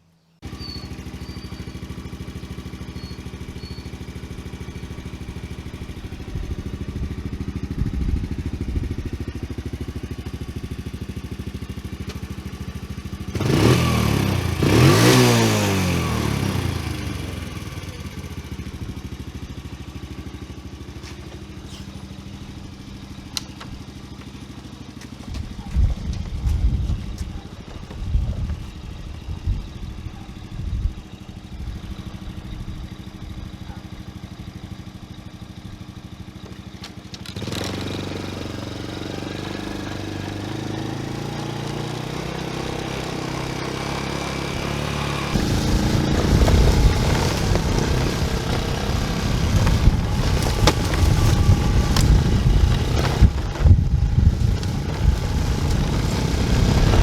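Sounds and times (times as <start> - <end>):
quad bike engine running: 0.4 - 57.0.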